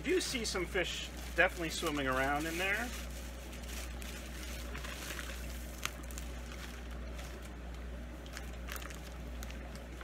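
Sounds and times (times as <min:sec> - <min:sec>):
plastic bags rustling and crinkling: 0:00.0 - 0:10.0
steady low hum: 0:00.0 - 0:10.0.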